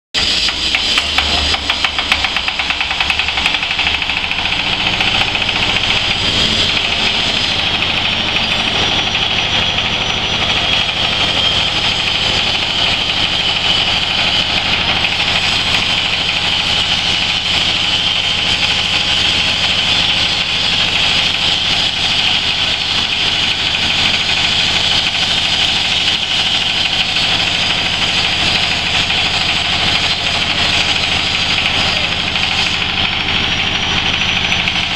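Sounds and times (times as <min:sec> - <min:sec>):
diesel engine drone: 0:00.2 - 0:34.9
hammer mill whining hiss: 0:00.2 - 0:34.9.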